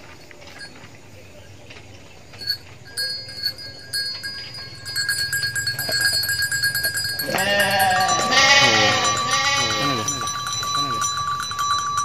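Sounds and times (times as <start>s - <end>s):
sheep tearing and chewing grass: 0.0s - 12.0s
thin high tone: 2.3s - 12.0s.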